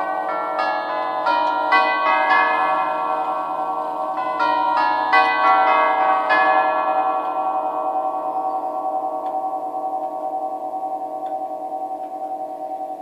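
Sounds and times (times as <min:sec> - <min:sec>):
clock chiming tubular bells: 0:00.0 - 0:13.0.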